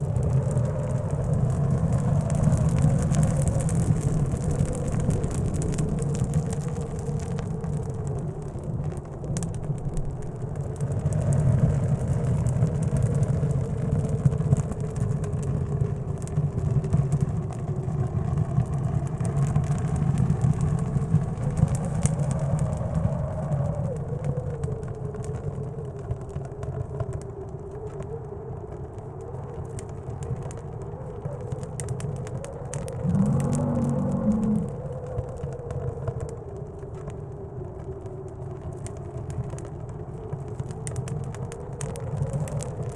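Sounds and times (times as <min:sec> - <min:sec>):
wind rumbling and whistling: 0:00.0 - 0:42.9
wood stove fire crackling: 0:00.0 - 0:42.9.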